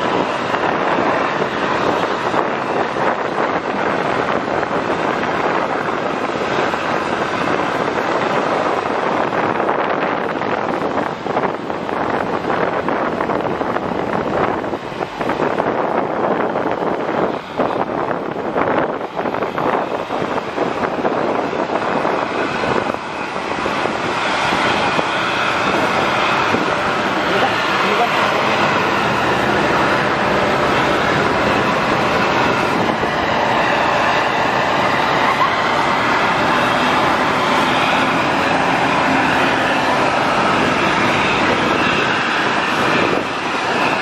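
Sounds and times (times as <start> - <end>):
coach engine running: 0.0 - 44.0
motorbike: 0.0 - 44.0
road noise: 0.0 - 44.0
wind buffeting microphone: 0.0 - 44.0.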